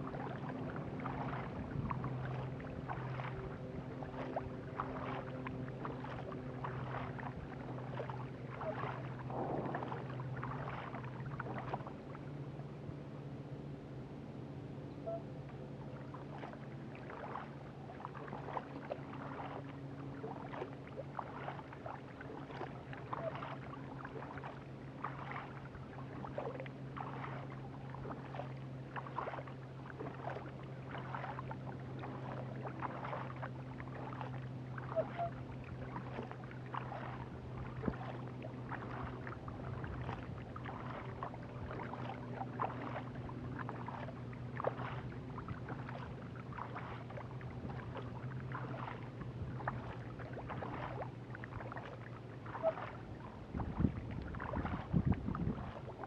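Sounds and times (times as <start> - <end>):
kayak paddle strokes splashing: 0.0 - 13.6, 15.0 - 56.0
steady low hum: 0.0 - 56.0.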